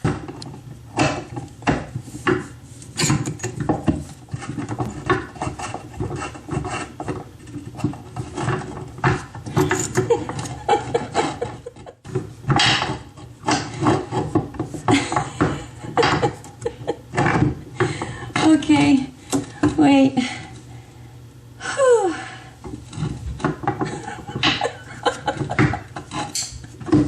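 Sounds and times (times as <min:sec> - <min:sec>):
tool scraping pipe fittings: 0:00.0 - 0:19.8, 0:22.6 - 0:27.0.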